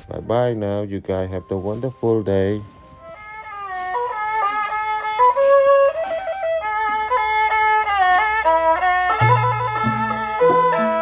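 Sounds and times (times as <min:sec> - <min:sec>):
instrumental melody sliding notes: 0:00.0 - 0:11.0.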